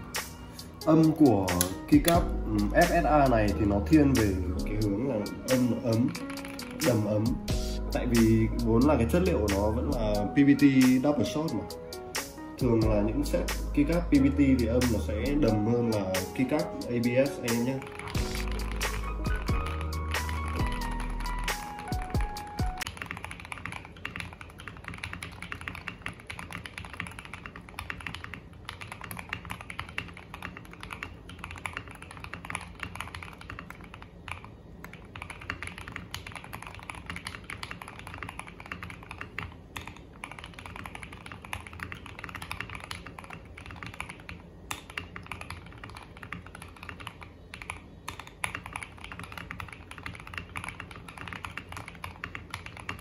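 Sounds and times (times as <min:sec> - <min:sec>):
mechanical keyboard typing: 0:00.0 - 0:53.0.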